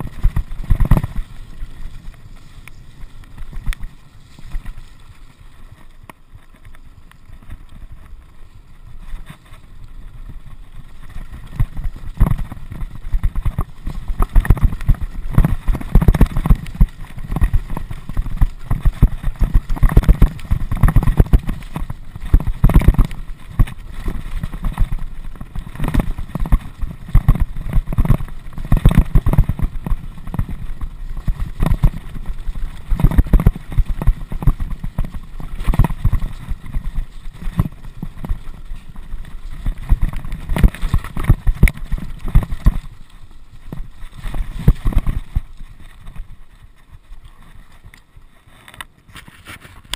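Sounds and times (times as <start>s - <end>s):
mountain bike rolling over rocks: 0.0s - 49.9s.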